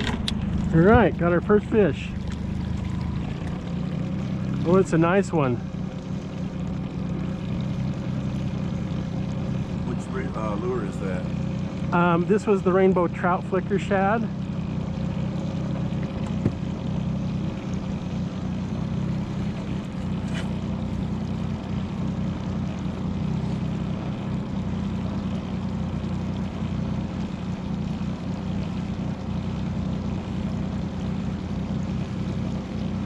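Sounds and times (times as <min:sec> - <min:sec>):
outboard motor humming: 0:00.0 - 0:33.0.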